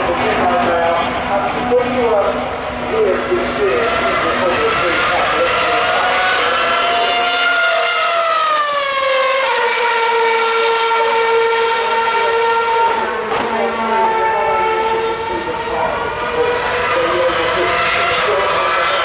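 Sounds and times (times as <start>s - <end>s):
race car engine at steady revs: 0.0s - 19.0s
second race car engine: 0.0s - 19.0s.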